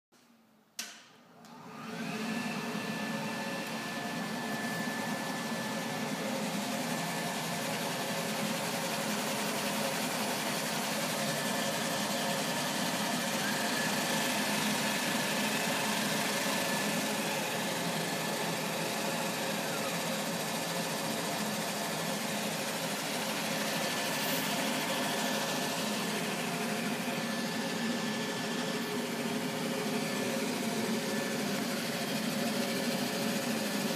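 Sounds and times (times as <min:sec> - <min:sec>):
machine motor and conveyor whirring: 0:01.5 - 0:33.9.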